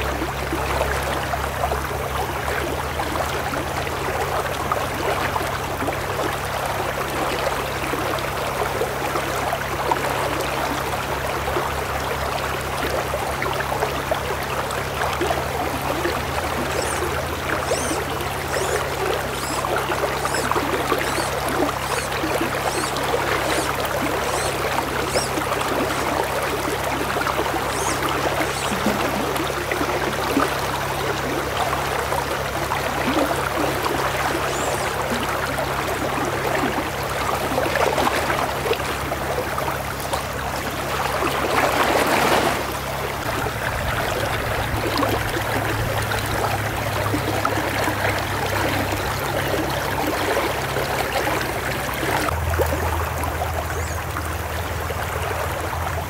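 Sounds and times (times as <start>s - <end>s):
water running over rocks: 0.0s - 56.0s.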